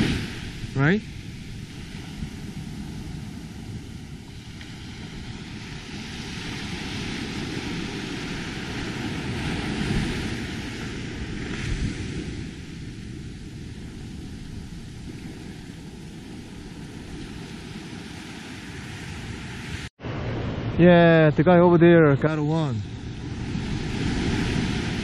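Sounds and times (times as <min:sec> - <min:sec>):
ocean surf washing in: 0:00.0 - 0:25.0.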